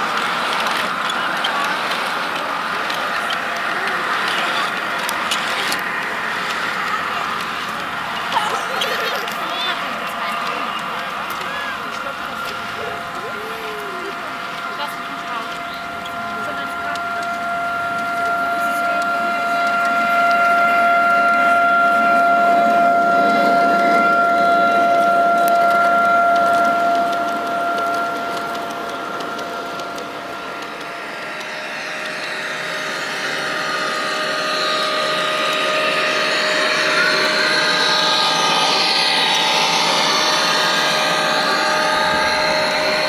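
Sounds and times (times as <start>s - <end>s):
model locomotive motor whine: 0.0s - 43.0s
model locomotive whirring: 0.0s - 43.0s.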